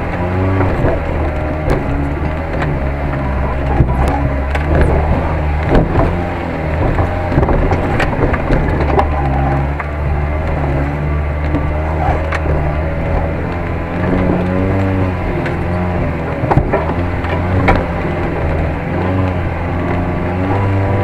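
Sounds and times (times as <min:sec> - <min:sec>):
car engine running: 0:00.0 - 0:21.0
sharp knocks and cracks: 0:00.0 - 0:21.0.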